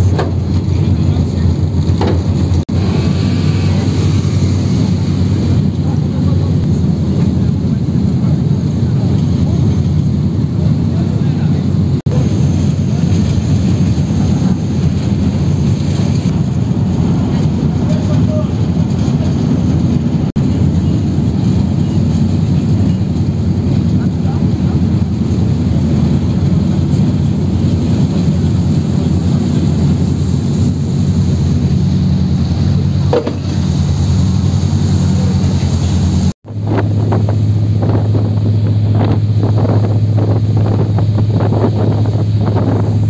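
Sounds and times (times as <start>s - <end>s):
ferry engines droning: 0.0s - 43.0s
wind buffeting microphone: 0.0s - 43.0s.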